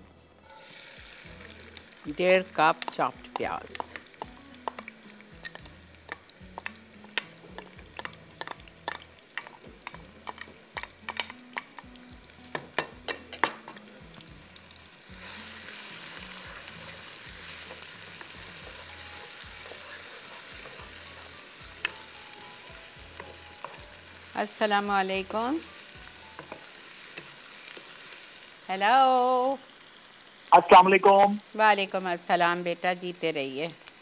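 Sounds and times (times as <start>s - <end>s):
onions frying in oil: 0.4s - 34.0s.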